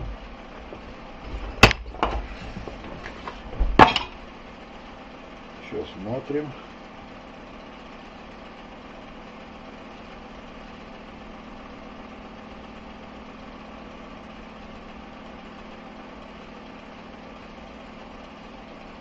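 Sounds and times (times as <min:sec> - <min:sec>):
machine hum with hiss: 0:00.0 - 0:19.0.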